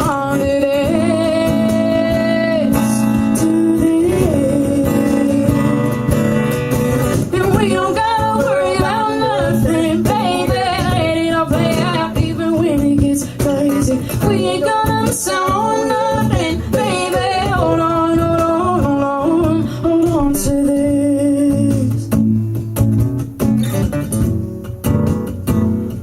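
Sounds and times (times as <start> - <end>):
person singing: 0.0 - 6.1, 7.4 - 22.2
strummed acoustic guitar: 0.0 - 26.0.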